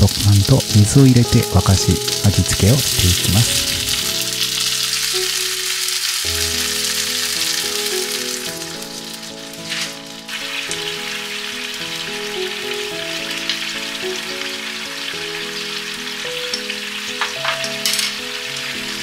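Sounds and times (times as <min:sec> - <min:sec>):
food sizzling in a frying pan: 0:00.0 - 0:19.0
light background music: 0:00.0 - 0:19.0.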